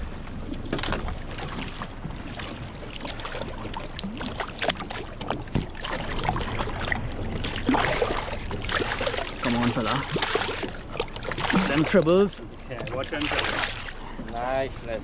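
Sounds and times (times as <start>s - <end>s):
water lapping against boat hull: 0.0s - 15.0s
fish thrashing and splashing: 0.5s - 14.1s.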